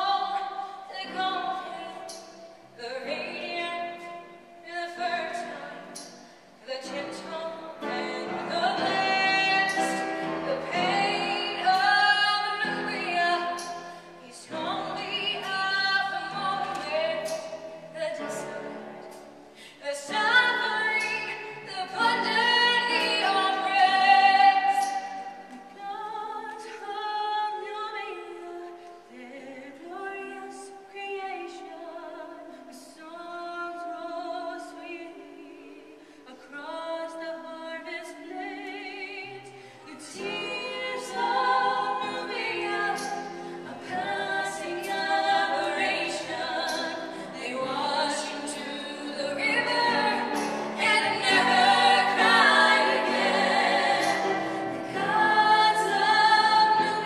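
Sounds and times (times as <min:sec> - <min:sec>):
woman singing musical song: 0:00.0 - 0:57.0.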